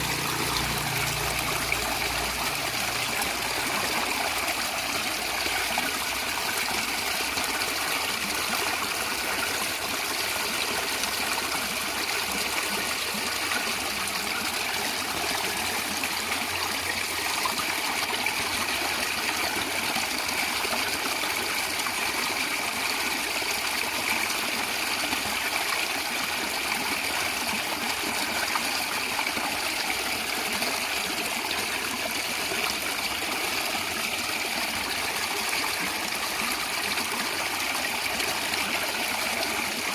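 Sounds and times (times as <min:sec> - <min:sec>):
stream running and gurgling: 0:00.0 - 0:39.9.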